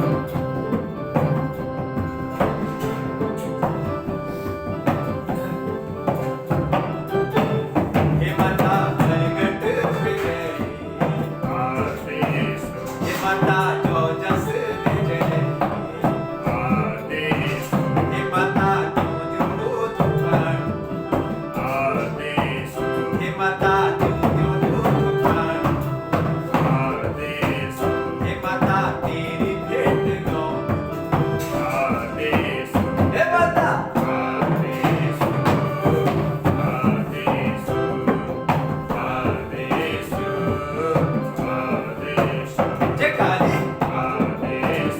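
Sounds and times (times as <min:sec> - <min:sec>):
electronic keyboard held notes: 0:00.0 - 0:44.9
hand drum rhythm: 0:00.0 - 0:44.9.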